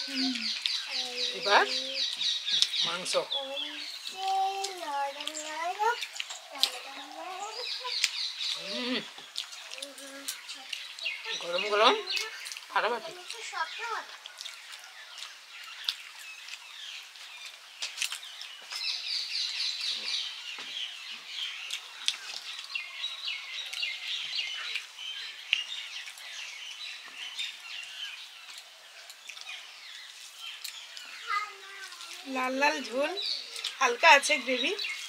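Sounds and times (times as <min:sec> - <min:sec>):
songbirds chirping and twittering: 0:00.0 - 0:35.0.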